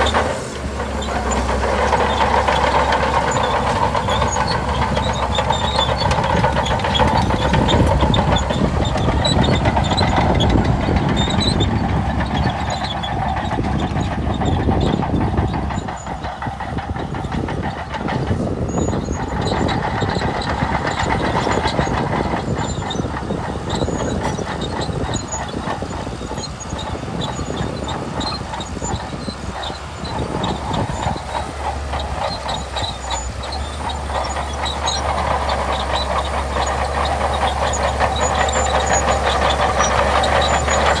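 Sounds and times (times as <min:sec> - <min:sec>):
bulldozer diesel engine under load: 0:00.0 - 0:41.0
steel tracks clattering: 0:00.0 - 0:41.0.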